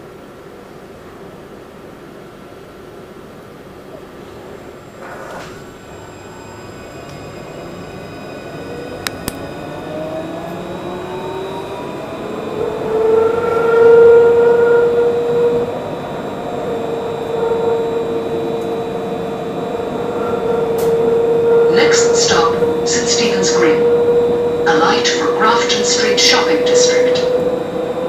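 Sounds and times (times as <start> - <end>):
tram electric drive whining: 2.7 - 28.0
wheels rumbling on rails: 4.2 - 28.0.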